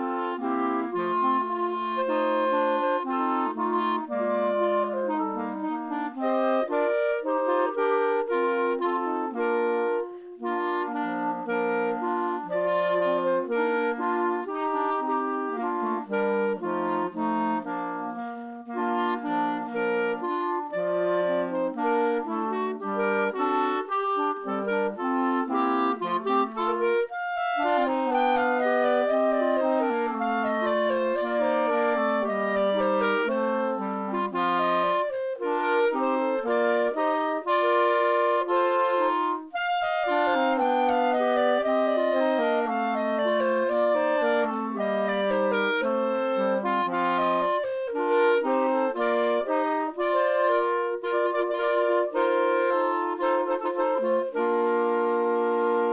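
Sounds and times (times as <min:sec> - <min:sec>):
wind instruments playing chords: 0:00.0 - 0:55.9.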